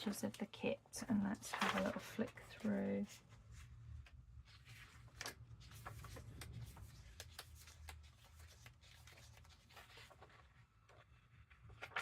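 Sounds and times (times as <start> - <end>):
paper pages rustling: 1.3 - 12.0.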